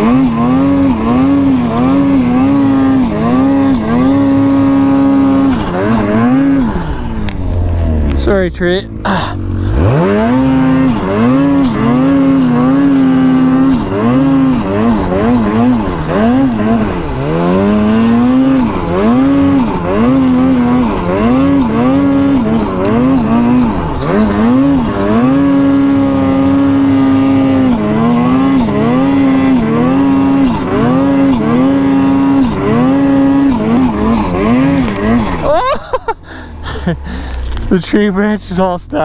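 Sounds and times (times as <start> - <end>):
snowmobile engine revving: 0.0 - 39.0.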